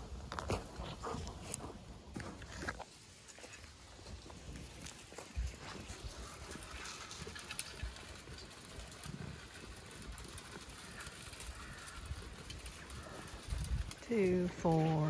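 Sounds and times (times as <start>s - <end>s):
sheep chewing feed: 0.0s - 15.0s.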